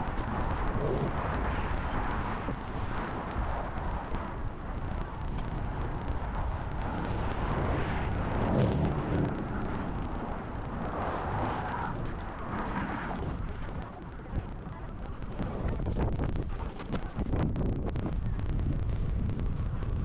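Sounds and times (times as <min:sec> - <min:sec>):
traffic rumble: 0:00.0 - 0:20.0
wind: 0:00.0 - 0:20.0.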